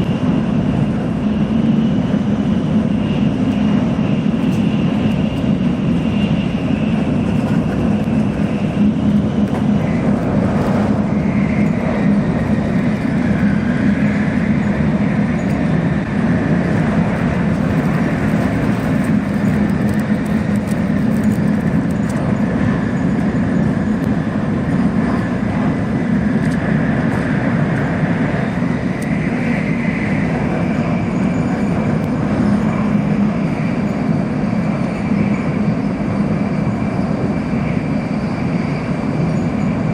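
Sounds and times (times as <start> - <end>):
faint high whine: 0.0 - 39.9
train cabin rumble: 0.0 - 39.9.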